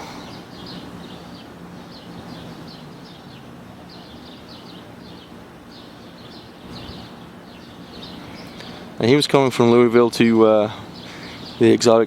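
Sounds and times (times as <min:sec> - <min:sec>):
bird chirping: 0:00.0 - 0:12.0
low background hum: 0:00.0 - 0:12.0.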